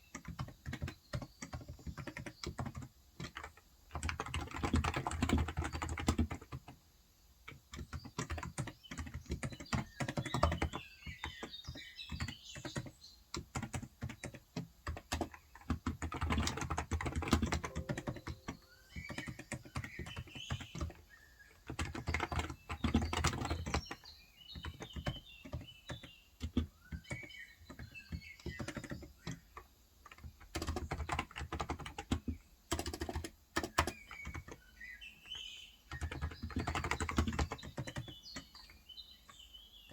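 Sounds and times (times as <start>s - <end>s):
keyboard typing: 0.0s - 6.8s, 7.5s - 34.7s, 35.3s - 38.8s
faint birds chirping: 0.0s - 39.9s.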